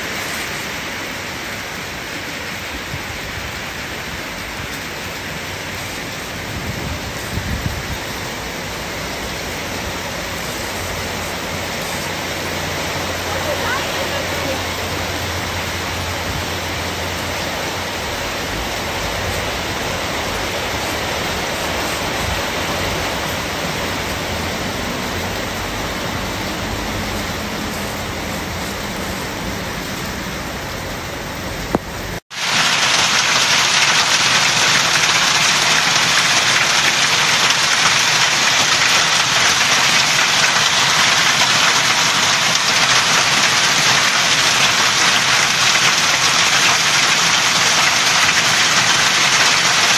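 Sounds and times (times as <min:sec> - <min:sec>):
floodwater rushing: 0:00.0 - 0:49.9
hail and heavy rain falling: 0:00.0 - 0:49.9.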